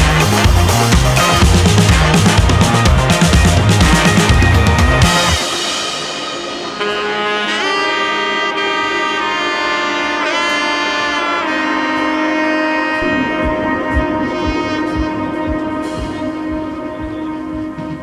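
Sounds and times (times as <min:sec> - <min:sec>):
low beats: 0:00.0 - 0:09.3, 0:12.8 - 0:18.0
held chords: 0:00.0 - 0:18.0
melodic lead with bending notes: 0:00.0 - 0:18.0.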